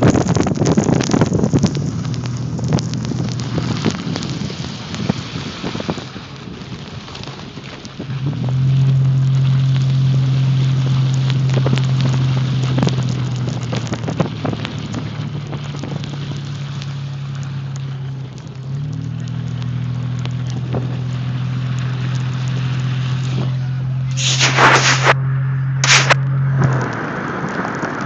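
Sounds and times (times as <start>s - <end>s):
car engine and road hum: 0.0s - 28.0s.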